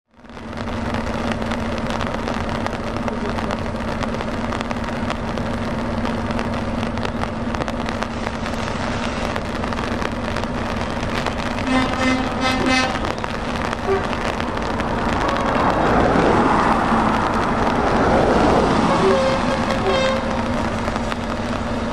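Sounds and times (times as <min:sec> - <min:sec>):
truck engine drone: 0:00.1 - 0:21.9
tyre hiss on wet road: 0:00.3 - 0:21.9.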